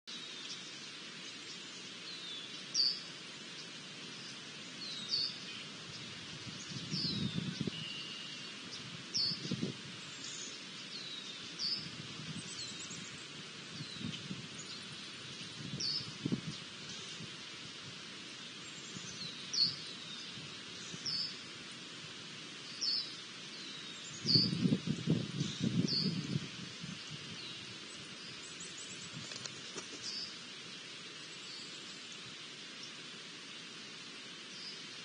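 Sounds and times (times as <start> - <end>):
steady background hiss: 0.1 - 35.0.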